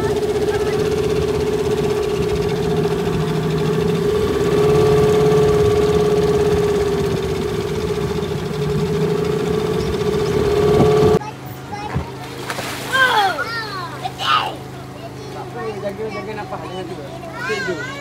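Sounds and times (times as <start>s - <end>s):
outboard motor humming: 0.0s - 18.0s.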